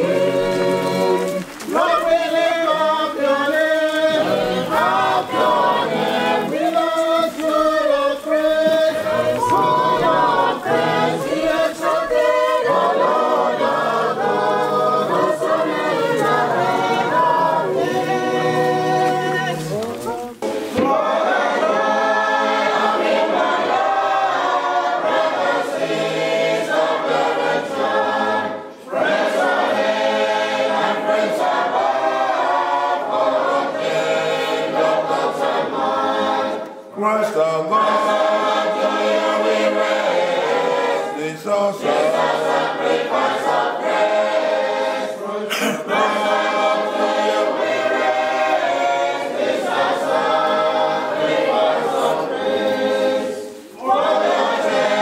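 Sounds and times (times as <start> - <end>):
group singing a hymn unaccompanied: 0.0 - 55.0.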